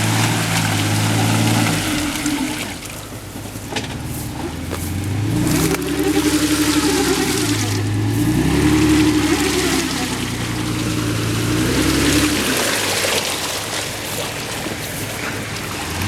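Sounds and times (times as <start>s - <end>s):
engine revving: 0.0s - 16.0s
mud and water churning: 0.0s - 16.0s.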